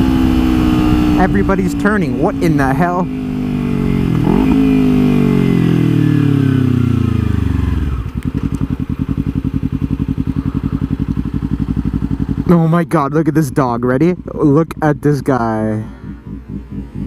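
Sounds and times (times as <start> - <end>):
motorcycle engine idling: 0.0 - 17.0
motorcycle engine winding down: 0.0 - 17.0.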